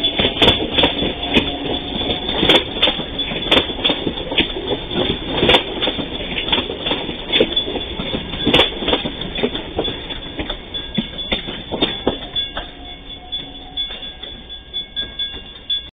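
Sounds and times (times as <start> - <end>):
train wheels clacking over rails: 0.0 - 15.9.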